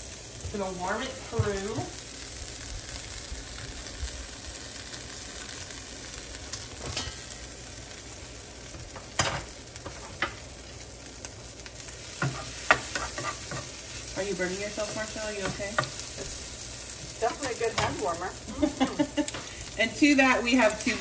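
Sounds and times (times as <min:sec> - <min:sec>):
pizza sizzling in a frying pan: 0:00.0 - 0:21.0.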